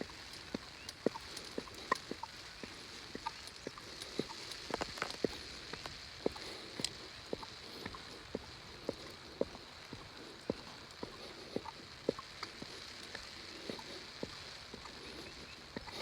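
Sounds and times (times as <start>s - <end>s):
footsteps: 0.0s - 16.0s
steady high hiss: 0.0s - 16.0s.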